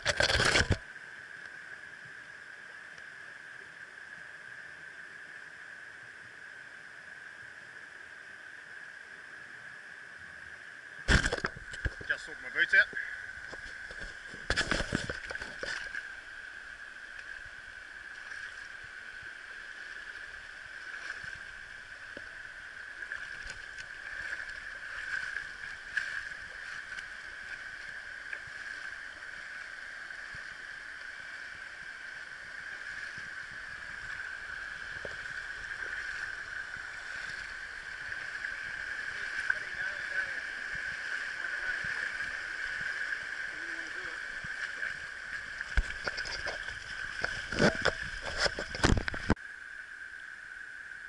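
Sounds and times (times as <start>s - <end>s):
river running over stones: 0.0s - 51.0s.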